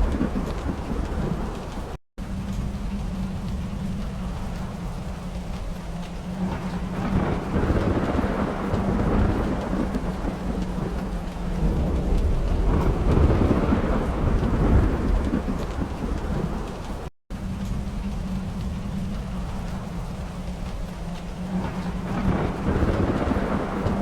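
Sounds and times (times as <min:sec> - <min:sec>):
rolling thunder: 0:00.0 - 0:24.0
steady rain: 0:00.0 - 0:24.0.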